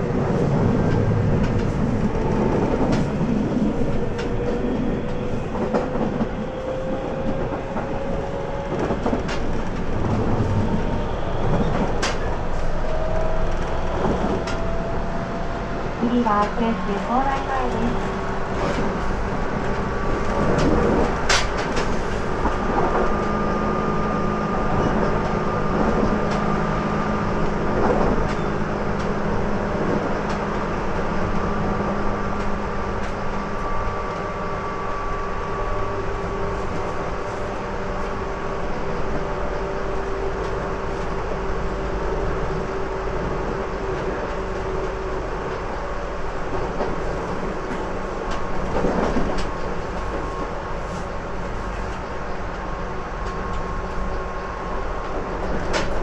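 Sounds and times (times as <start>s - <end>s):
rail joint clicks: 0.0s - 56.0s.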